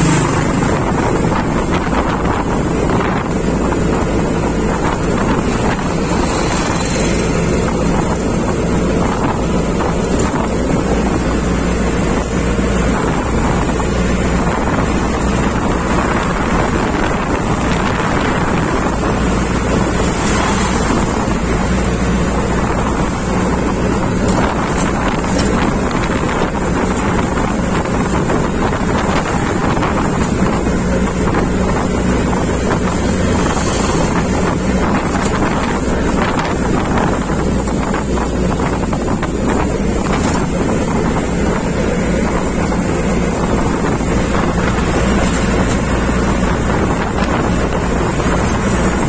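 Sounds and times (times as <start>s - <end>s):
road and engine noise: 0.0s - 49.0s
wind buffeting microphone: 0.0s - 49.0s.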